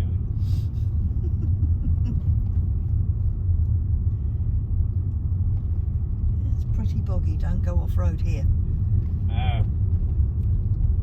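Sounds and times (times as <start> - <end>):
engine and tyre rumble in car: 0.0 - 11.0.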